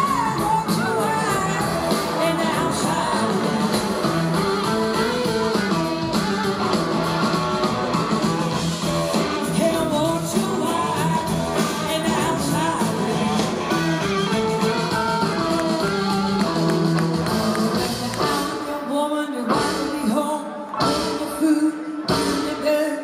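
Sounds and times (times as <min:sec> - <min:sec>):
drum kit: 0:00.0 - 0:18.7, 0:19.5 - 0:20.2, 0:20.8 - 0:21.5, 0:22.1 - 0:22.8
electric guitars: 0:00.0 - 0:23.0.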